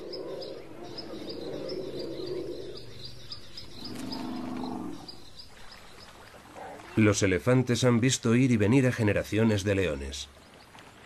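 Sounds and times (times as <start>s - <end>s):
bush ambience: 0.0s - 11.0s.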